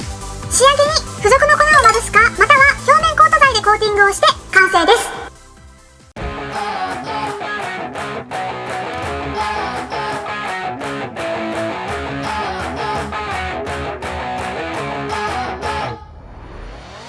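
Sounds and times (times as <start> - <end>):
upbeat guitar music: 0.0 - 5.6, 6.2 - 16.0.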